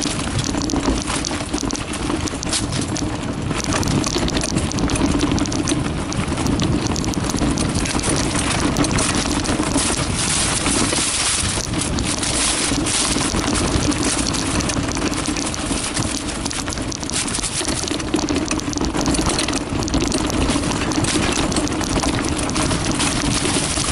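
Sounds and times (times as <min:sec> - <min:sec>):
bike rattling and knocking: 0:00.0 - 0:23.9
tyres rolling on dirt: 0:00.0 - 0:23.9
wind buffeting microphone: 0:00.0 - 0:23.9.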